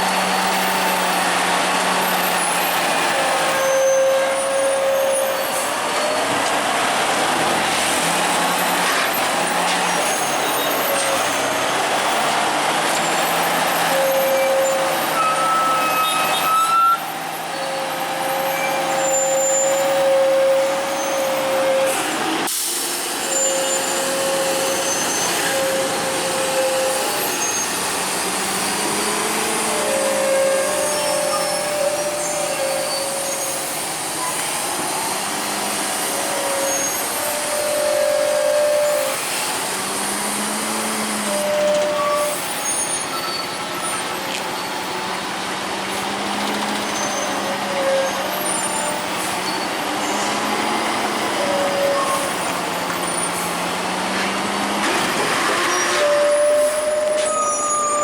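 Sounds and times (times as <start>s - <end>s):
heavy truck engine: 0.0s - 58.0s.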